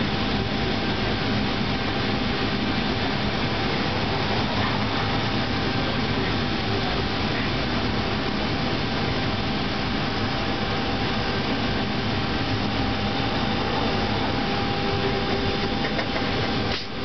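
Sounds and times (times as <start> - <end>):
streetcar running on track: 0.0 - 17.0.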